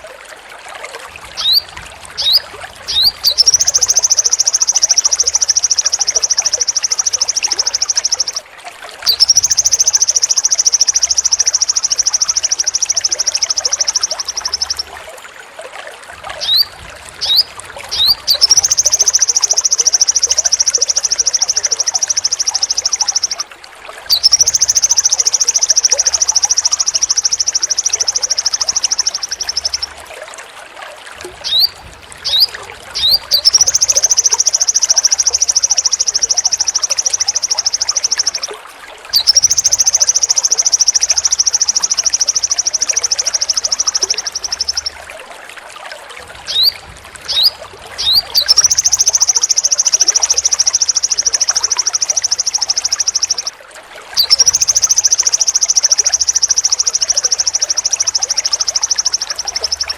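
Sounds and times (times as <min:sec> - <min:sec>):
songbird trilling: 0:01.4 - 0:08.4, 0:09.0 - 0:14.9, 0:16.4 - 0:23.5, 0:24.1 - 0:30.0, 0:31.4 - 0:45.0, 0:46.5 - 0:53.5, 0:54.2 - 0:59.9
upward-sweeping bird chirps: 0:01.4 - 0:08.4, 0:09.0 - 0:14.9, 0:16.4 - 0:23.4, 0:24.1 - 0:30.0, 0:31.4 - 0:38.5, 0:39.1 - 0:45.0, 0:46.5 - 0:53.5, 0:54.2 - 0:59.9.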